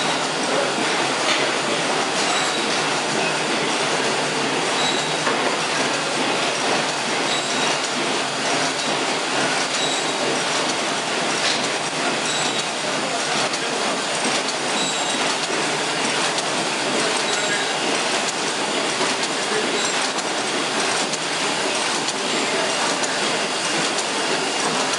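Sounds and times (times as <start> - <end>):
sewing machine running: 0.0 - 24.9.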